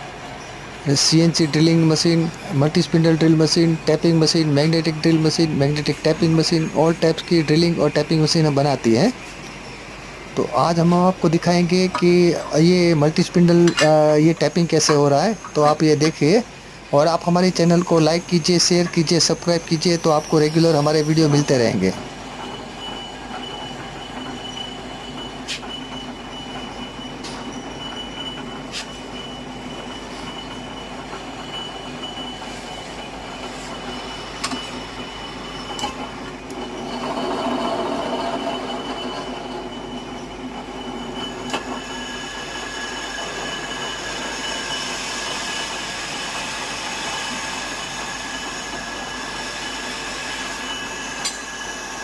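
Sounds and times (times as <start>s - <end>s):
tapping machine hum: 0.0s - 47.0s
high metallic whine: 0.0s - 52.0s.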